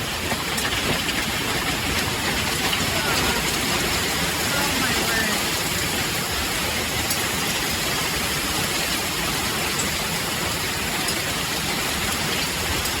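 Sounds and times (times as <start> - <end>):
hail and rain on a car: 0.0 - 13.0.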